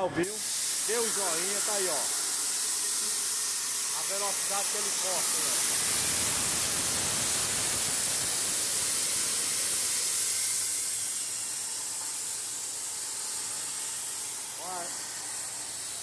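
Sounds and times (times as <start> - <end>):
plasma torch hissing: 0.0 - 16.0.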